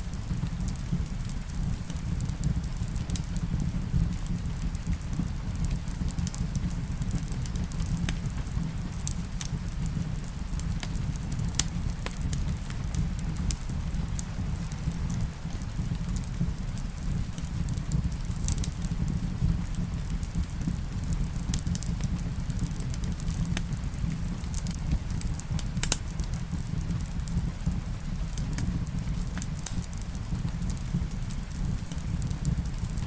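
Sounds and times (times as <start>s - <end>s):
fireplace crackling and popping: 0.0s - 33.0s
rain: 0.0s - 33.0s.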